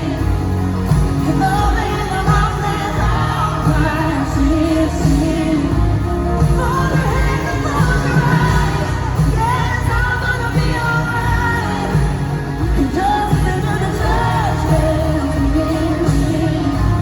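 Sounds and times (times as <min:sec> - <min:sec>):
live country-pop band: 0:00.0 - 0:17.0
woman singing: 0:00.0 - 0:17.0.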